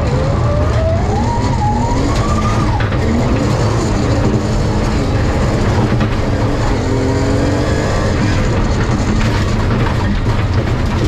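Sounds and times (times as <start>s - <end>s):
car engine at full throttle: 0.0s - 11.0s.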